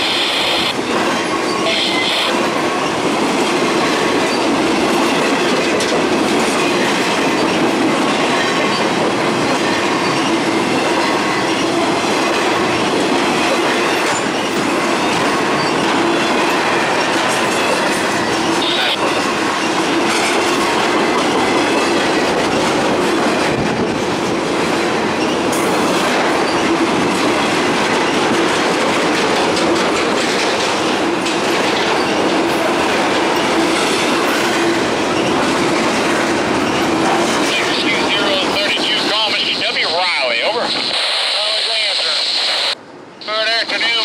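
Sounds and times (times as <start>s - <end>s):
steel wheels rumbling on rails: 0.0s - 44.0s.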